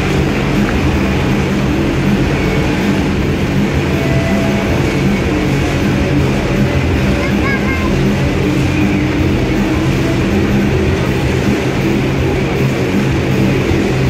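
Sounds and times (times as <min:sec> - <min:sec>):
motorcycle engines running: 0:00.0 - 0:14.0.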